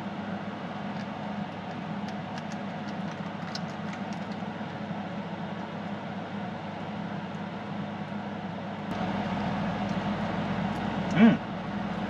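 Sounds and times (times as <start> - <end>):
air conditioner hum: 0.0 - 12.0.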